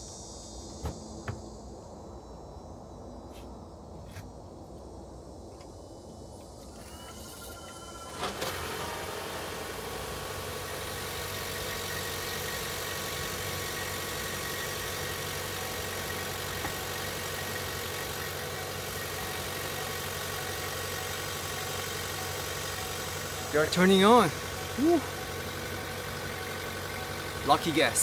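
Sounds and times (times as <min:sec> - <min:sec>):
faint steady whine: 0:00.0 - 0:28.0
car engine humming: 0:00.1 - 0:01.9, 0:06.4 - 0:28.0.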